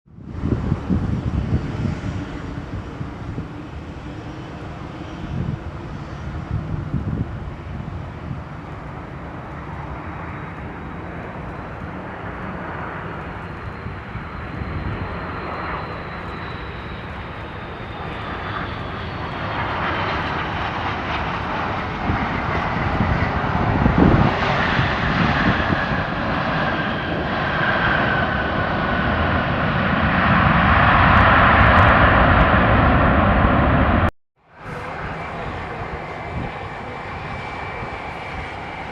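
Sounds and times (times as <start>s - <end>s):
airliner engines whining: 0.1s - 38.9s.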